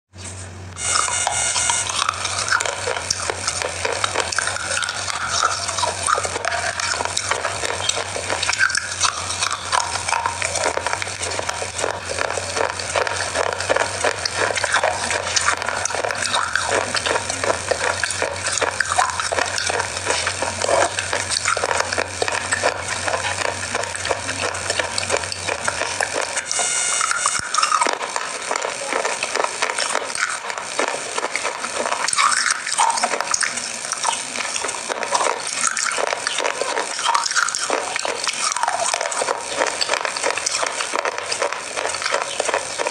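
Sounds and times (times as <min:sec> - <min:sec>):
low steady hum: 0:00.2 - 0:42.9
biting and chewing crunchy bars: 0:00.8 - 0:42.9.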